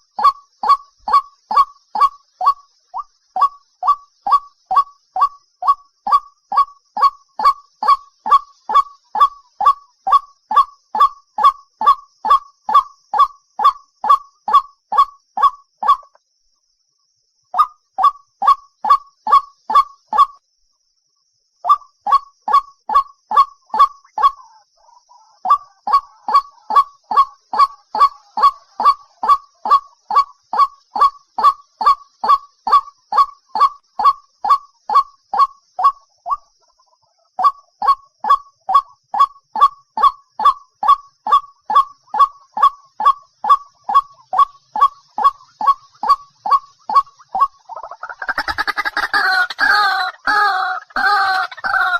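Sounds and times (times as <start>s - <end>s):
waterhen calling: 0.0s - 16.1s, 21.7s - 38.9s, 39.6s - 51.9s.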